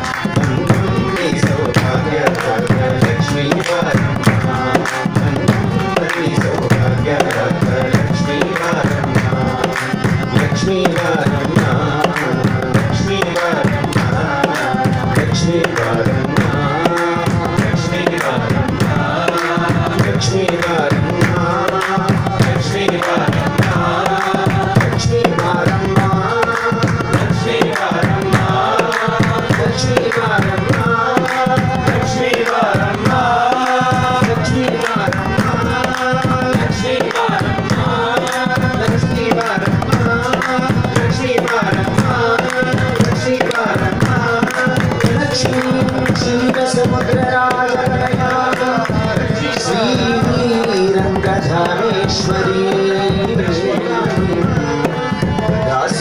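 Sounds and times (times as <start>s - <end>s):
group devotional singing: 0.0s - 56.0s
hand clapping: 0.0s - 56.0s
hand drum beat: 0.0s - 56.0s
harmonium: 0.0s - 56.0s.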